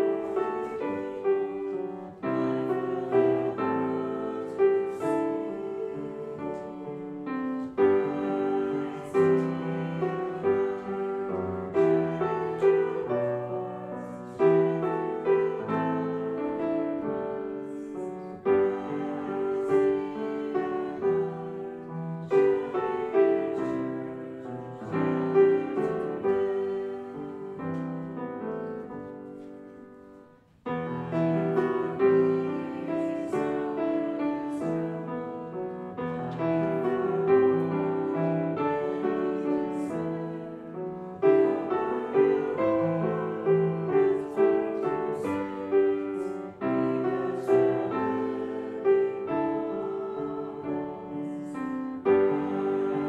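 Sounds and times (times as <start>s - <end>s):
piano playing hymn chords: 0.0s - 53.0s.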